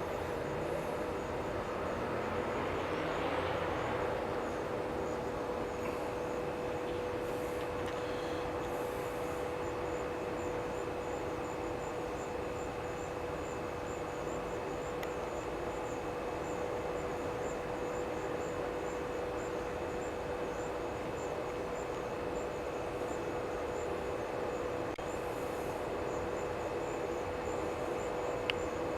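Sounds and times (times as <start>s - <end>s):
faint insect chirping: 0.0s - 28.9s
steady hum and low rumble: 0.0s - 28.9s.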